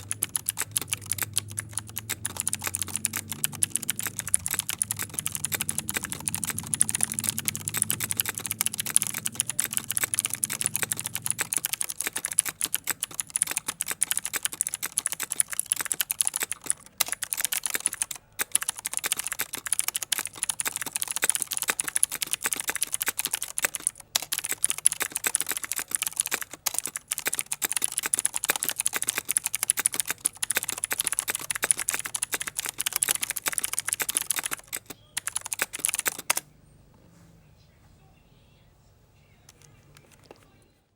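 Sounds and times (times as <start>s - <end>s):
mechanical keyboard typing: 0.0s - 36.5s, 39.5s - 40.6s.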